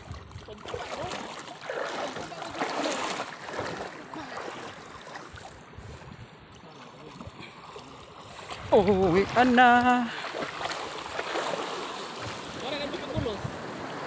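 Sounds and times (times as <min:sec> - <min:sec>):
legs splashing through water: 0:00.0 - 0:05.7, 0:06.5 - 0:14.0.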